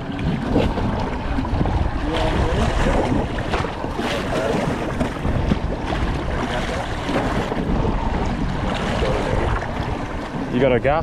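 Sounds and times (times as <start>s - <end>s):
sea noise with low rumble: 0.0s - 11.0s
wind on the microphone: 0.0s - 11.0s.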